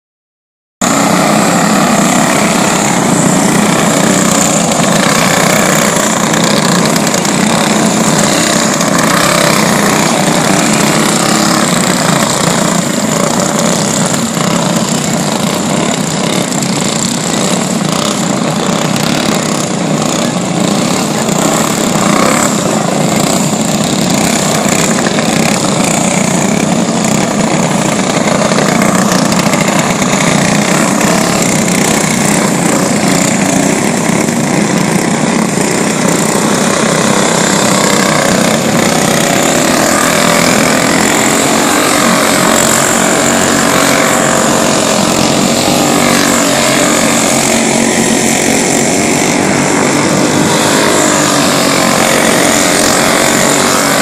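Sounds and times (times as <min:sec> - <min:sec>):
racing kart engines droning: 0:00.8 - 0:54.0.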